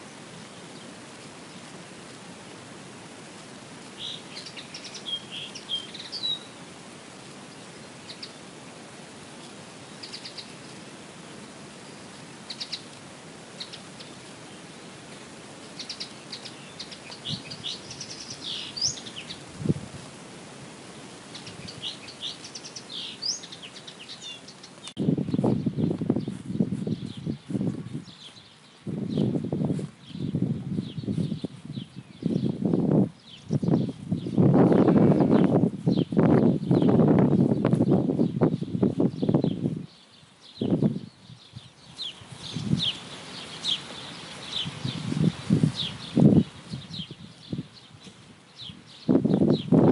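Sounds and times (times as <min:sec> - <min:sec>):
songbirds singing: 0:00.0 - 0:02.2, 0:03.4 - 0:06.6, 0:07.2 - 0:08.6, 0:09.3 - 0:10.9, 0:11.7 - 0:19.8, 0:21.2 - 0:49.9
steady hiss: 0:00.0 - 0:49.9.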